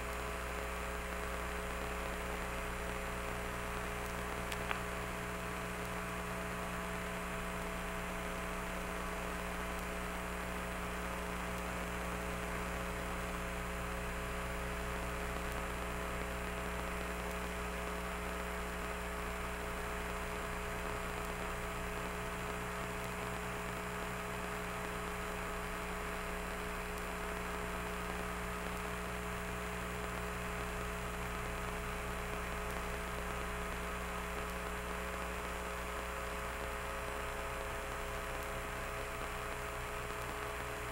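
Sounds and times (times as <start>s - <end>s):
electrical hum: 0.0s - 40.9s
static hiss: 0.0s - 40.9s.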